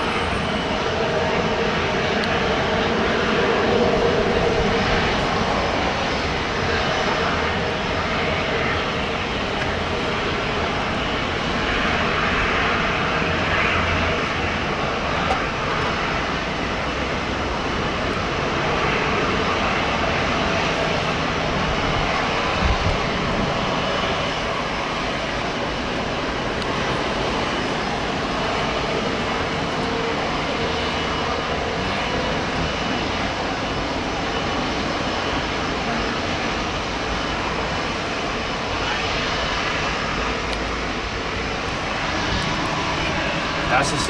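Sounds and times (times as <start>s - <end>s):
jet engine rushing noise: 0.0s - 35.6s, 36.2s - 44.0s.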